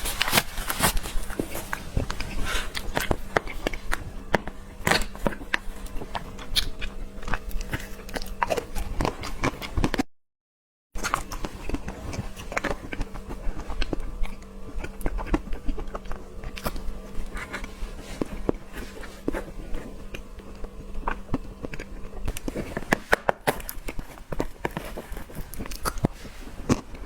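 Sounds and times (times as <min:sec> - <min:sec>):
person chewing soft food: 0:00.0 - 0:10.0, 0:11.0 - 0:27.0.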